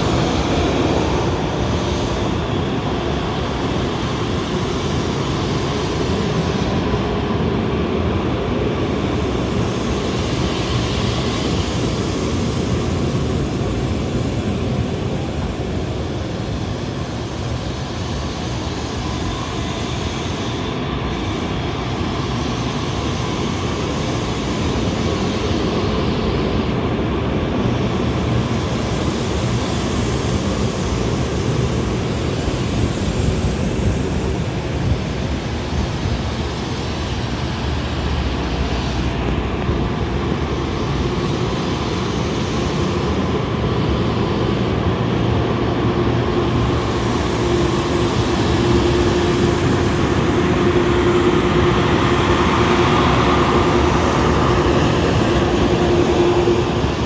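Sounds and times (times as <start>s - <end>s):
train rumbling over level crossing: 0.0s - 57.0s.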